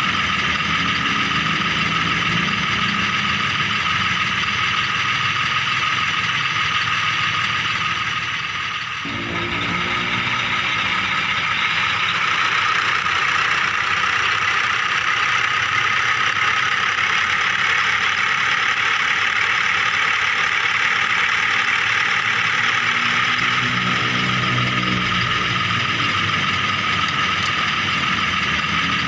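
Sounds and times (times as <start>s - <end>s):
toy vehicle electric motors: 0.0s - 29.0s.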